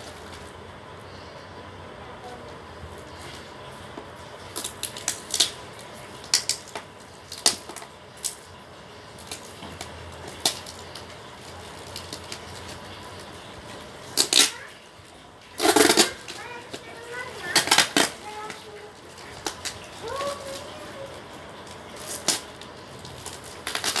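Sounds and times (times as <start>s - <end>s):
plastic wrapping crackling: 0.0s - 1.4s, 2.3s - 24.0s.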